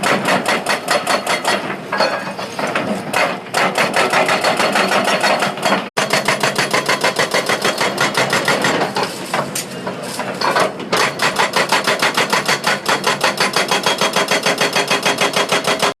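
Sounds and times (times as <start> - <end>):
hydraulic breaker hammering: 0.0 - 9.1, 10.4 - 16.0.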